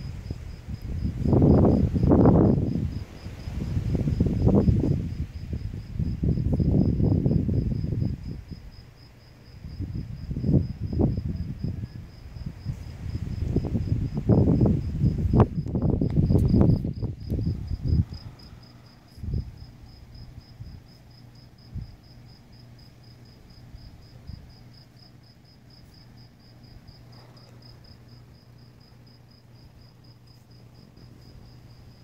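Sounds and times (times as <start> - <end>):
cricket chirping: 0.0 - 32.0.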